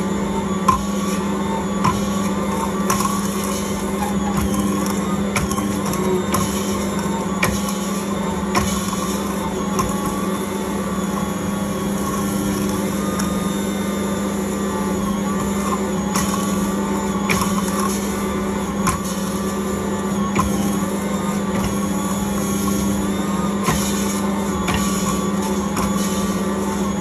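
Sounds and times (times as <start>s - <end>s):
stand mixer motor humming: 0.0s - 27.0s.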